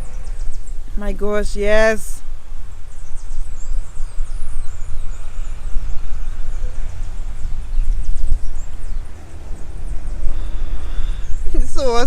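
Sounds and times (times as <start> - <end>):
faint bird chirps: 0.0 - 12.0
wind buffeting microphone: 0.0 - 12.0.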